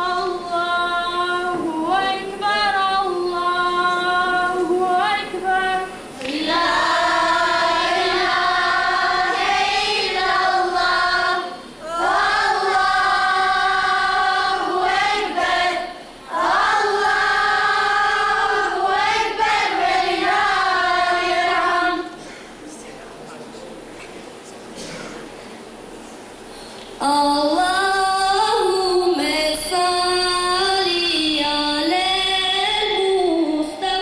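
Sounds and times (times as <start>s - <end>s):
girls singing without accompaniment: 0.0s - 22.3s, 27.0s - 34.0s.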